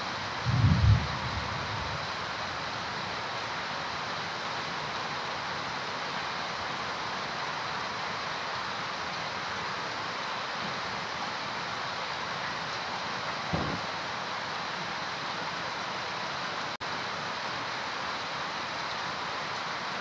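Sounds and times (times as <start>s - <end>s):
heavy rain on foliage: 0.0s - 20.0s.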